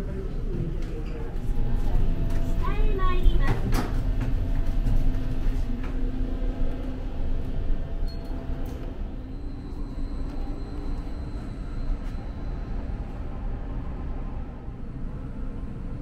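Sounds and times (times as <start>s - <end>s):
ship engines and ventilation hum: 0.0s - 16.0s.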